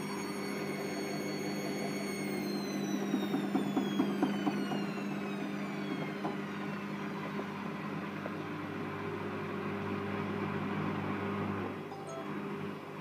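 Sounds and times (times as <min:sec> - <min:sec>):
washing machine motor whine: 0:00.0 - 0:13.0.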